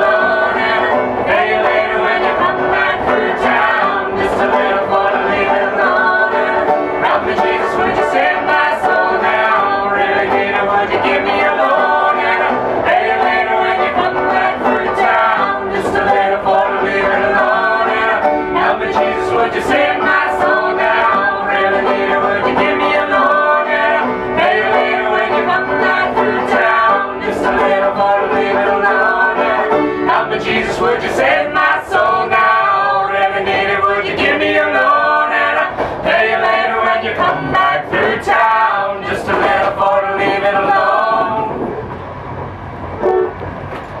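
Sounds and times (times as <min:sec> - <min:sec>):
banjo: 0:00.0 - 0:41.7
acoustic guitar strumming: 0:00.0 - 0:44.0
people singing together: 0:00.0 - 0:44.0.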